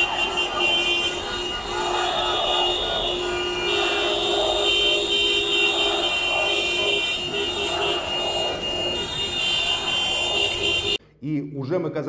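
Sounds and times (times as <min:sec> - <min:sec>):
car horns blasting: 0:00.0 - 0:11.0
large crowd noise: 0:00.0 - 0:11.0.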